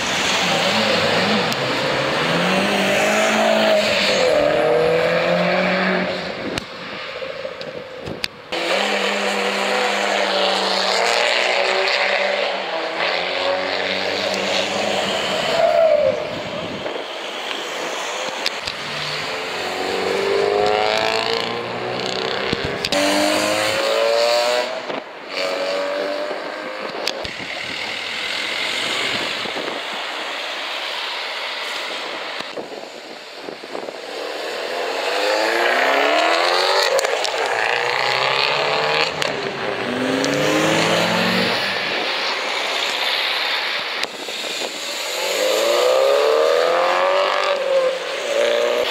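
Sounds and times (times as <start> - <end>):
cars revving and accelerating past: 0.0 - 48.9.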